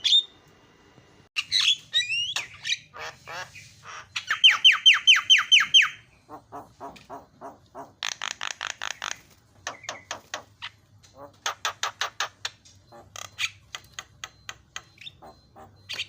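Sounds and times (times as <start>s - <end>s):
rapid bird chattering: 1.4s - 16.0s.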